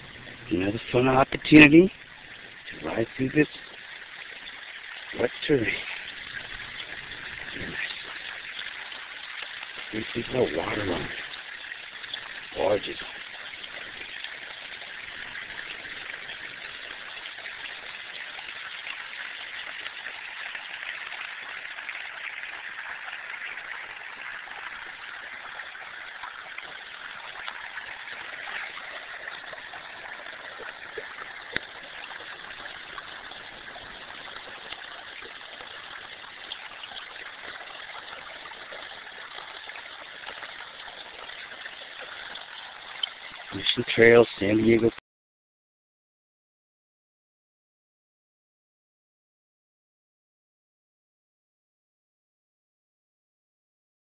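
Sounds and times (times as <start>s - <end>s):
stream water rushing: 0.0s - 44.9s.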